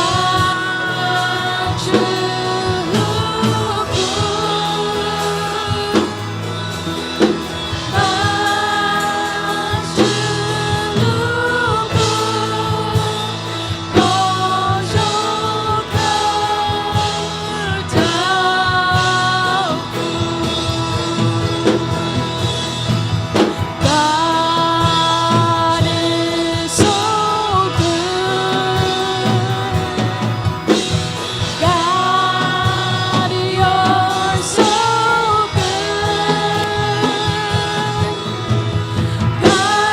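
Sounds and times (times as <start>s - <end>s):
band with steady drum beat: 0.0s - 39.9s
voices singing held notes: 0.0s - 39.9s.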